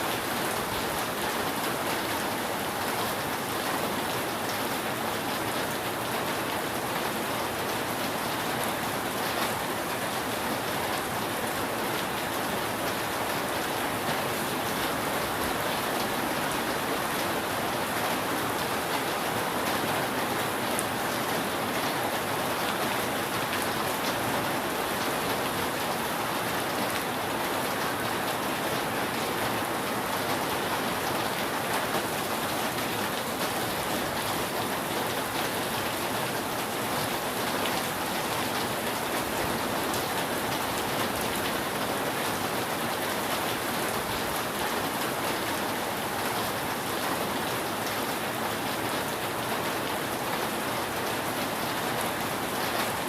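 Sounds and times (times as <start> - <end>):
rain on a roof: 0.0 - 53.0.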